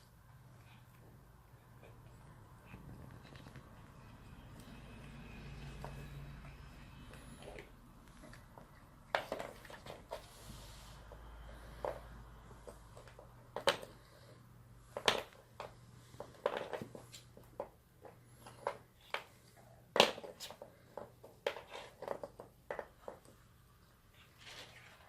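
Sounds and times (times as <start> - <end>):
faint low hum: 0.0 - 21.3.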